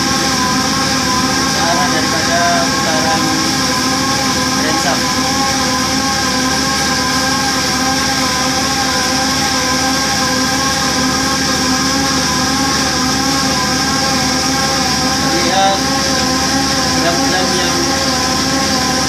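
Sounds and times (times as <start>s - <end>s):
boring machine humming: 0.0s - 19.0s.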